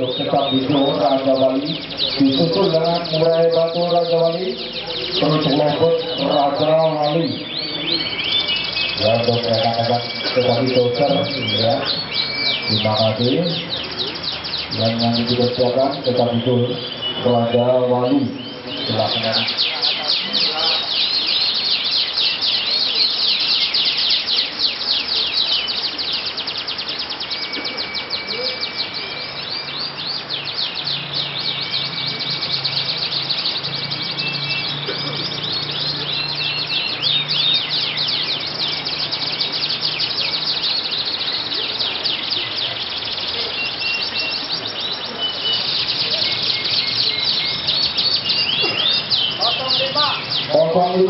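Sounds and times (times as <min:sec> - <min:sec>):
canaries singing: 0:00.0 - 0:51.0.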